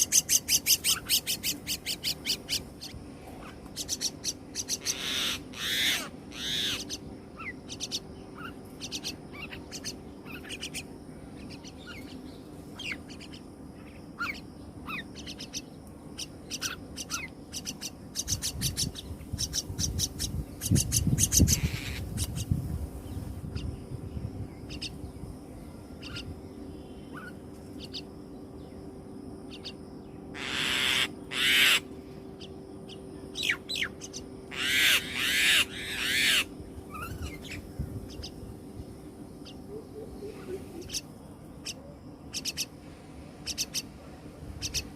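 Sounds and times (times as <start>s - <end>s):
bird chicks calling: 0.0s - 42.8s, 43.4s - 44.9s.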